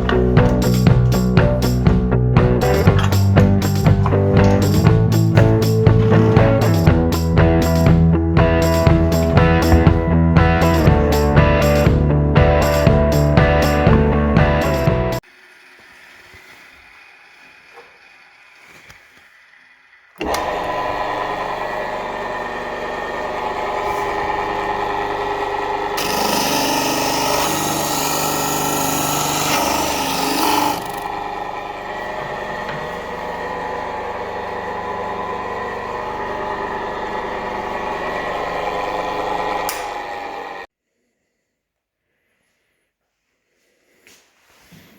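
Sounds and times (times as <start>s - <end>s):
power tool running: 0.0s - 19.6s, 20.2s - 40.7s.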